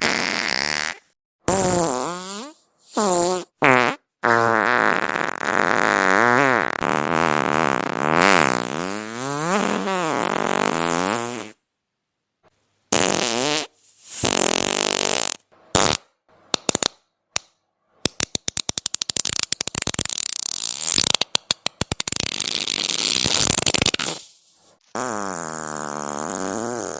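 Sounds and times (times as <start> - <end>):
farting: 0.0 - 11.6, 12.9 - 16.1, 18.9 - 26.9.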